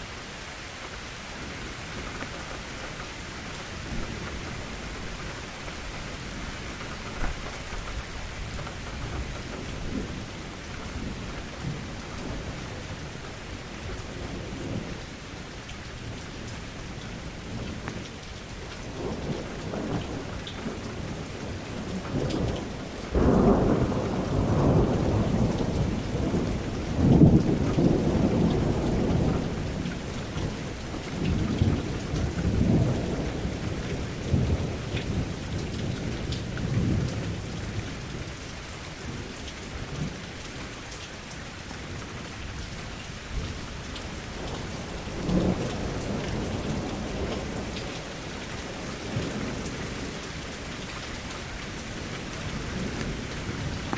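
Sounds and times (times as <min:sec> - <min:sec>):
steady rain: 0:00.0 - 0:53.9
thunder rumbling: 0:01.3 - 0:15.1, 0:18.8 - 0:40.2, 0:43.3 - 0:53.9.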